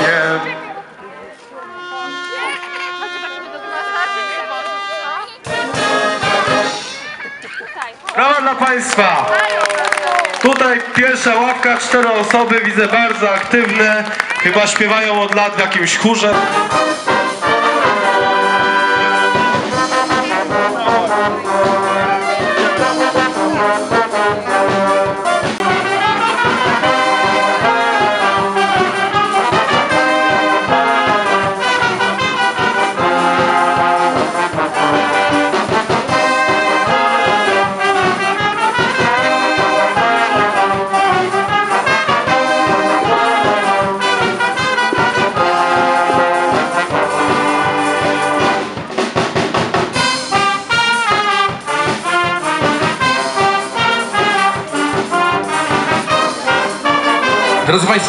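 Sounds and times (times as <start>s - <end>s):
brass bands playing: 0.0s - 58.0s.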